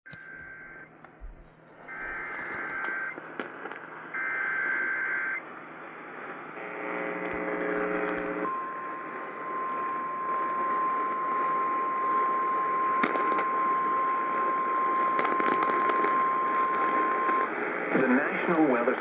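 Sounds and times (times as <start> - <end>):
radio static and hum: 0.1 - 19.0.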